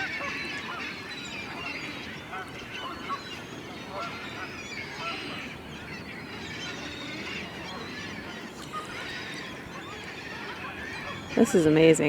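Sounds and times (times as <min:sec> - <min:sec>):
large flock of birds calling: 0:00.0 - 0:12.0.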